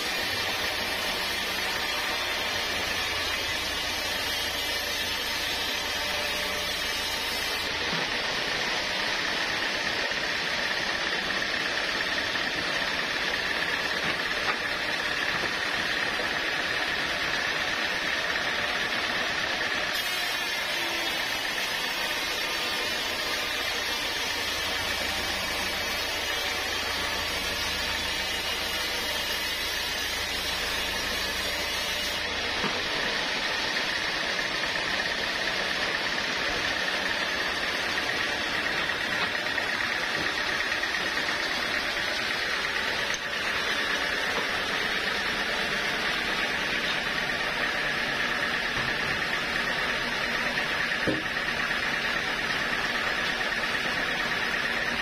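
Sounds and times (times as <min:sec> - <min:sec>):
high machine whine: 0:00.0 - 0:55.0.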